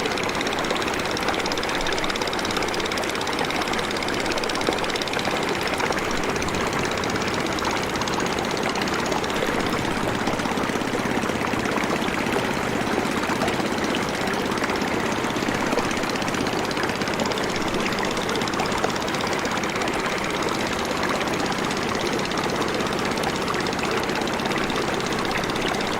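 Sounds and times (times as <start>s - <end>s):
motorboat engine running: 0.0s - 25.9s.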